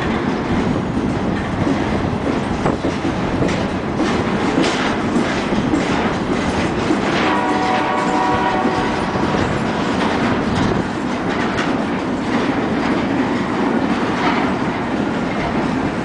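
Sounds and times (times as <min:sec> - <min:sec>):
train wheels rumbling on rails: 0:00.0 - 0:16.0
wheels clacking over rail joints: 0:00.0 - 0:16.0.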